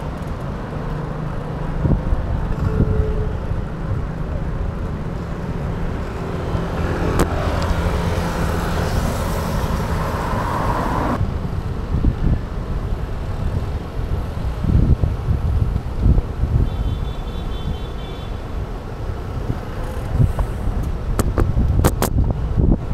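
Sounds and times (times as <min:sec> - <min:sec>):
traffic: 0:00.0 - 0:22.9
wind rumbling on microphone: 0:00.0 - 0:22.9.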